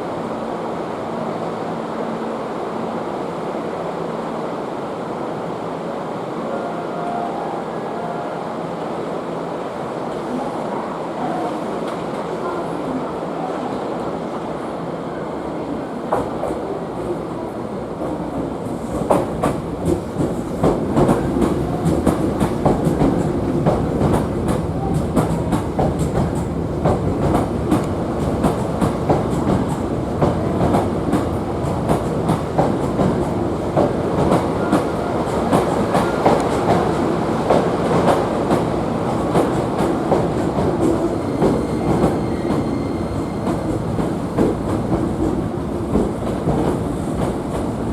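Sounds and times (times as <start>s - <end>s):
electric train rumbling: 0.0s - 47.9s.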